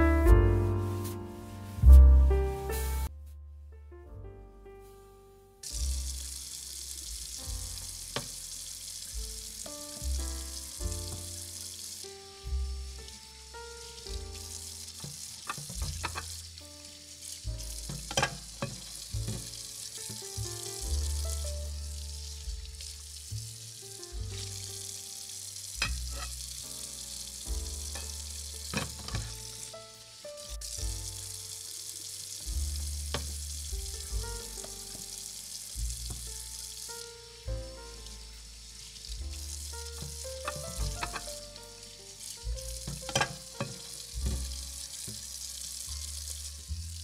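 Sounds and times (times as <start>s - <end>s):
steady high hiss: 0.0s - 3.1s, 5.6s - 47.0s
instrumental music with bass line: 0.0s - 47.0s.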